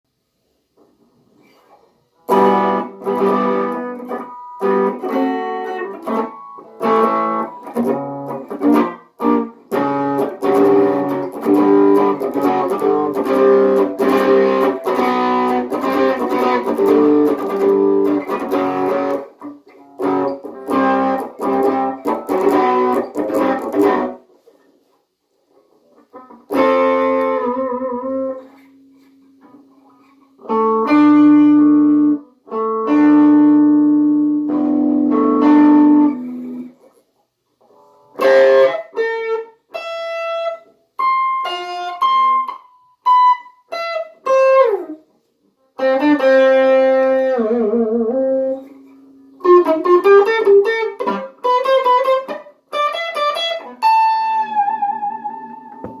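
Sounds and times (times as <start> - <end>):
solo lead guitar: 0.8 - 24.6, 25.5 - 56.0.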